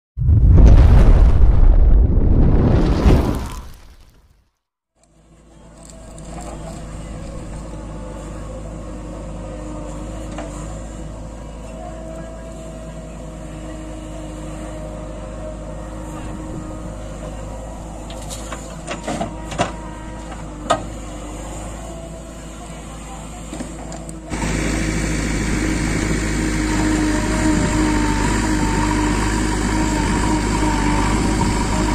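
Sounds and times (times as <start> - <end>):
diesel engine running: 5.0 - 31.9.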